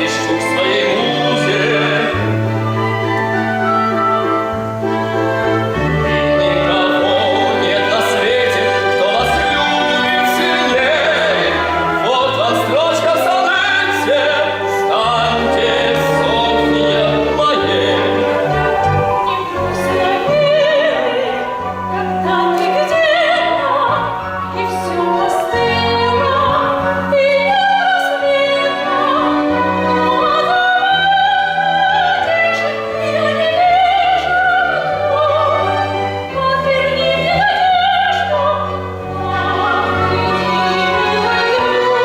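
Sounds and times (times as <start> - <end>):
operatic singing with vibrato: 0.0 - 42.0
symphony orchestra: 0.0 - 42.0.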